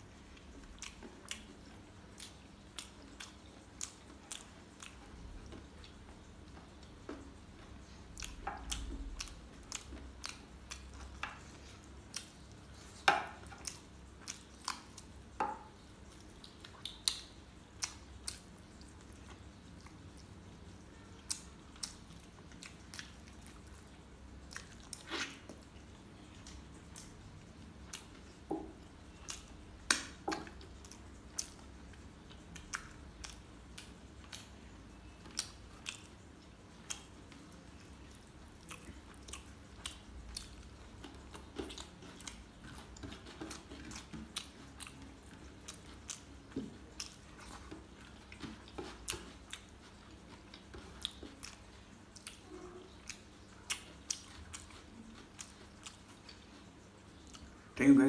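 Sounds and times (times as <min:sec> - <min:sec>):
person chewing and lip smacking: 0:00.1 - 0:57.8.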